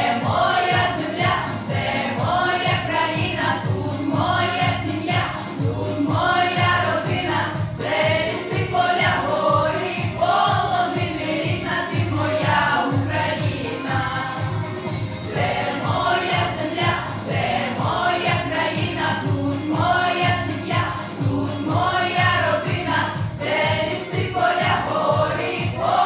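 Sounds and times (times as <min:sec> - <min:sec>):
group singing: 0:00.0 - 0:26.0
instrumental accompaniment with beat: 0:00.0 - 0:26.0.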